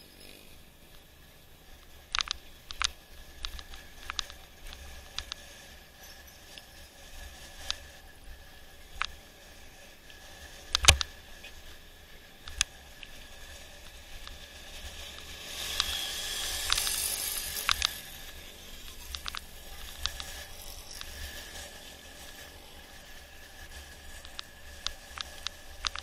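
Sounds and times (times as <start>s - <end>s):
bike clicks and rattles: 0.0s - 26.0s.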